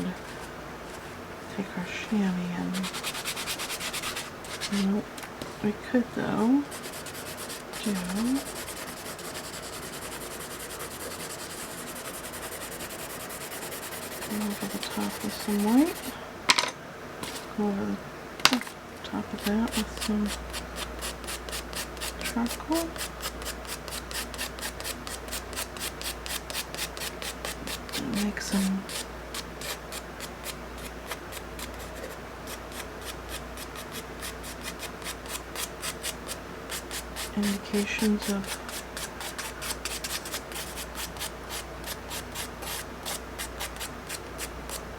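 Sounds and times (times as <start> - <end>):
charcoal rubbing on paper: 2.7 - 5.0, 6.6 - 16.1, 19.4 - 44.8.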